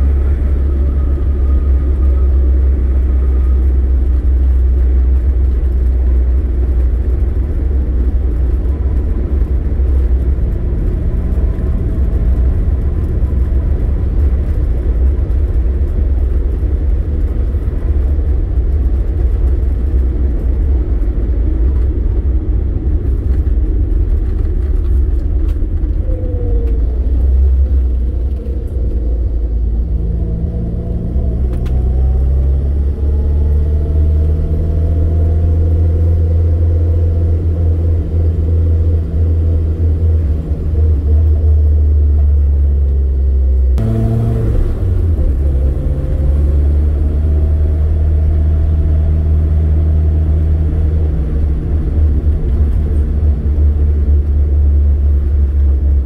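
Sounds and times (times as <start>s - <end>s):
car accelerating: 0.0s - 56.0s
car engine and road noise: 0.0s - 56.0s.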